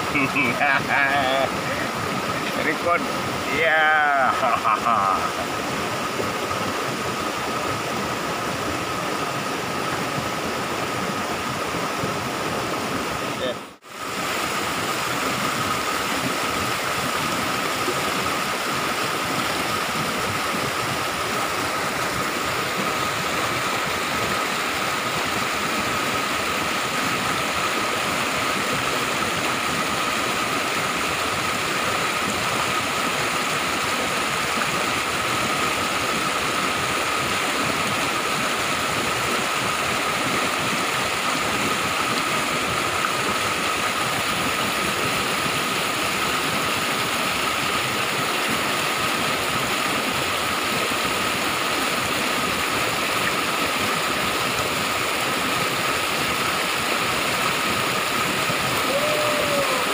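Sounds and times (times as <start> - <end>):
water cascading over rocks: 0.0 - 59.9.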